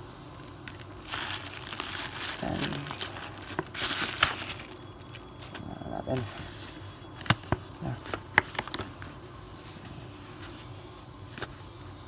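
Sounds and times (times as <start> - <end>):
packaging crinkling and tearing: 0.3 - 10.2.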